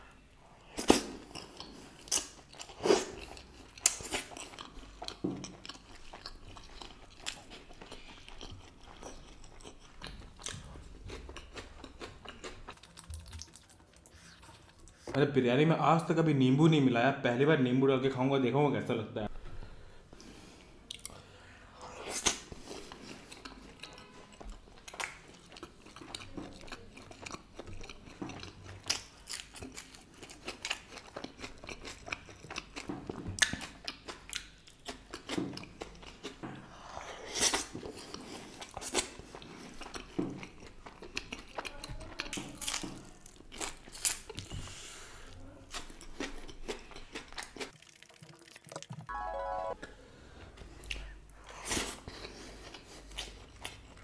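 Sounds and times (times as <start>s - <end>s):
person chewing food: 0.6s - 15.1s, 20.2s - 21.2s, 21.8s - 49.8s, 50.4s - 54.0s.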